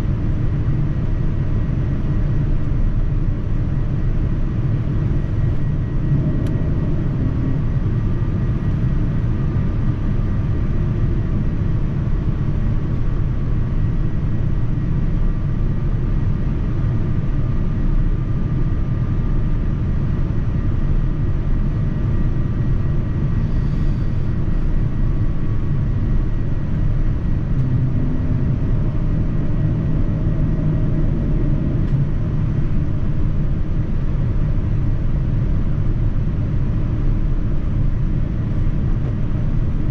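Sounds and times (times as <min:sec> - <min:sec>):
faint steady whines: 0:00.0 - 0:39.9
jet engine rumble: 0:00.0 - 0:39.9.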